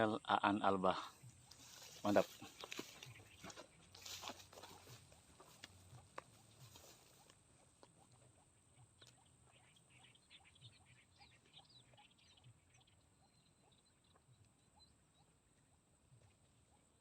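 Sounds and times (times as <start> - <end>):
faint bird chirps: 0.1 - 17.0.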